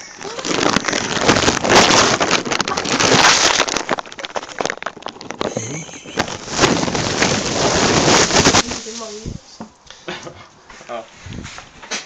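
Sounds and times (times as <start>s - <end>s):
rustling and scraping on microphone: 0.5s - 9.6s, 10.7s - 12.0s.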